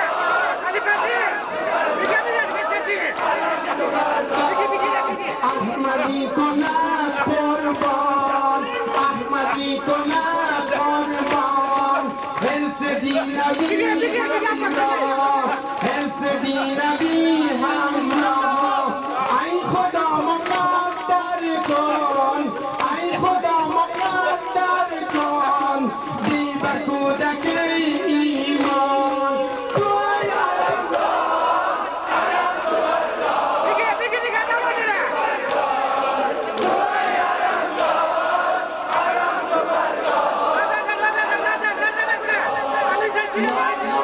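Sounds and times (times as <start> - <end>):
man chanting a lament: 0.0 - 31.9, 40.4 - 44.0
rhythmic chest slaps: 1.5 - 33.8, 34.9 - 41.0.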